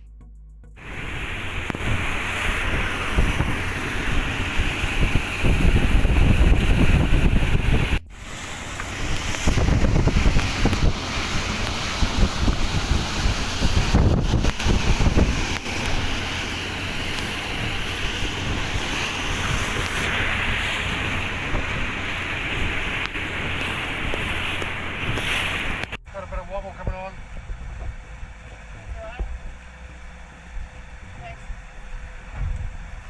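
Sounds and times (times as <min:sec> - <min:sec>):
wind buffeting microphone: 0:00.8 - 0:26.0, 0:26.7 - 0:29.6, 0:30.5 - 0:33.0
water rushing past boat hull: 0:00.8 - 0:28.4.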